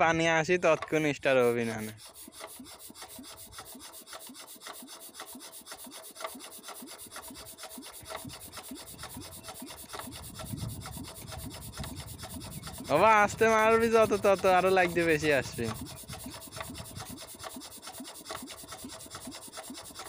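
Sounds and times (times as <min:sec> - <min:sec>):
hands rubbing and scraping: 0:00.6 - 0:20.0.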